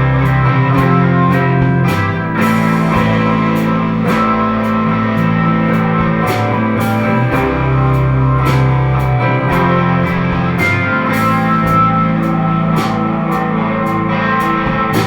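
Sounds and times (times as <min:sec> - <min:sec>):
bass line: 0:00.0 - 0:15.0
drums and cymbals: 0:00.0 - 0:15.0
electric guitars playing chords: 0:00.0 - 0:15.0.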